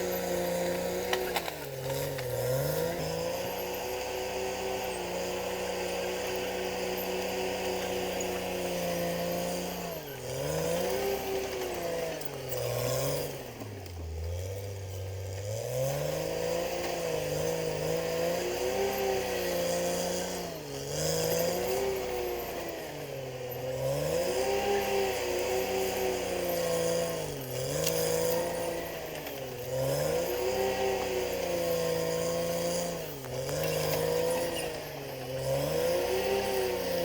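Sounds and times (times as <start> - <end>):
bulldozer diesel engine revving: 0.0 - 37.0.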